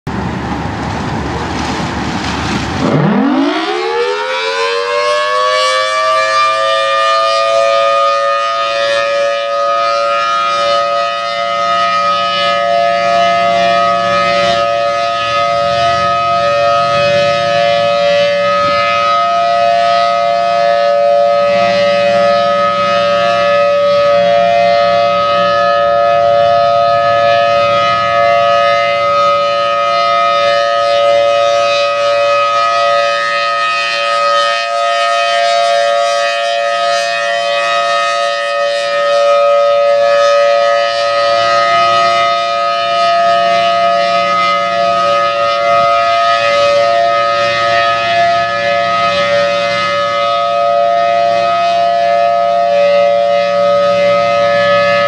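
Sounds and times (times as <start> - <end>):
civil defense siren two-note chord: 2.7 - 55.0.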